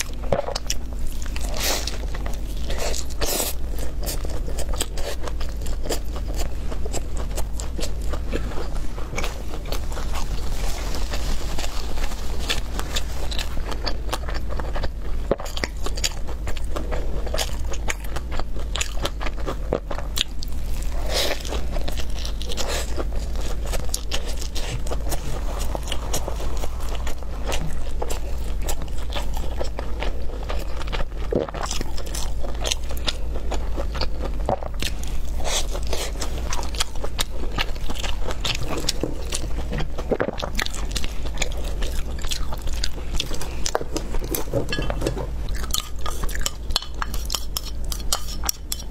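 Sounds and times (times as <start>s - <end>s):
crunchy bites and chewing: 0.0s - 48.7s.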